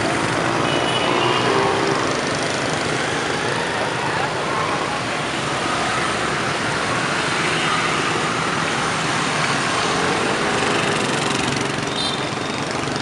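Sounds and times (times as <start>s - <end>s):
motorbike engines running: 0.0s - 13.0s.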